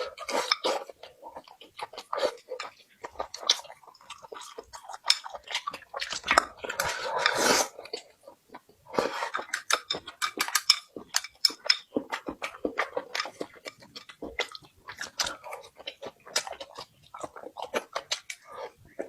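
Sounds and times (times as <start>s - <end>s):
wet chewing clicks and smacks: 0.5s - 7.0s, 7.7s - 19.0s.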